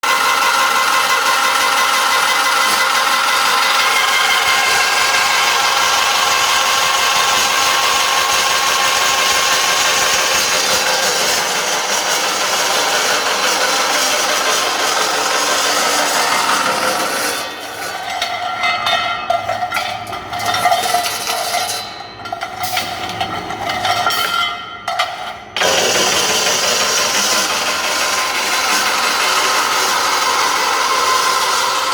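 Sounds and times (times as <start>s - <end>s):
pipe-cutting machine grinding metal: 0.0s - 31.9s.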